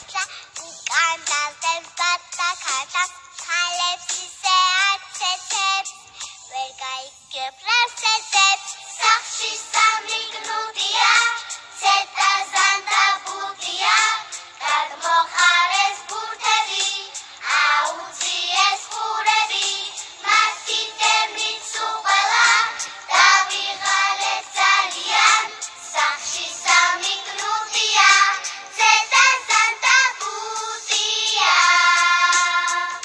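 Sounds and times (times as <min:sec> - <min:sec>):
musical backing track: 0:00.0 - 0:07.0, 0:07.6 - 0:33.0
young girls singing: 0:00.0 - 0:33.0.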